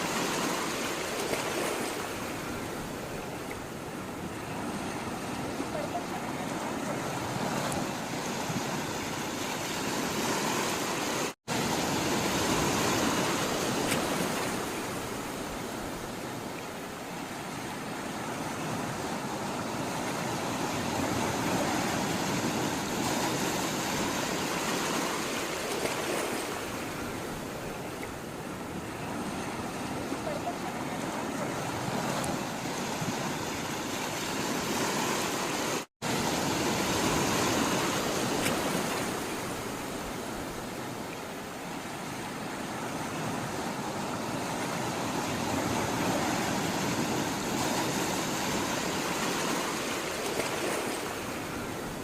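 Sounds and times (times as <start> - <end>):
sea water rushing: 0.0 - 52.0.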